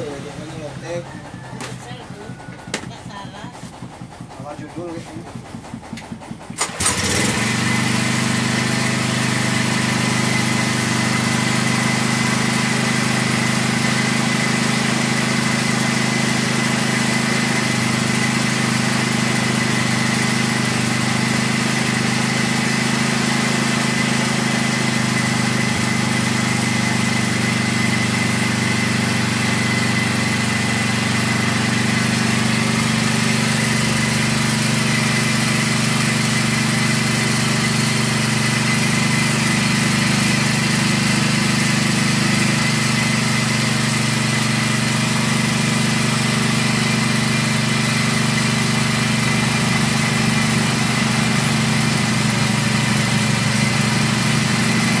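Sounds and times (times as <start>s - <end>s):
grinding mill drone: 0.0s - 55.0s.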